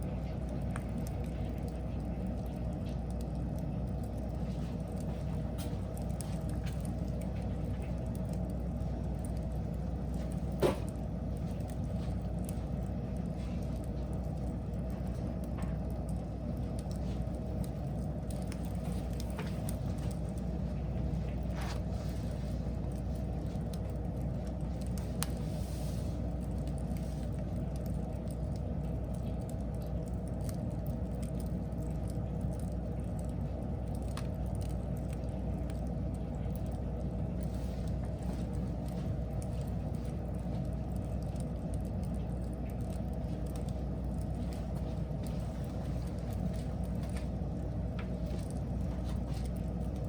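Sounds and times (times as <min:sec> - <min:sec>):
fire crackles and pops: 0:00.0 - 0:50.0
wood fire rumbling: 0:00.0 - 0:50.0.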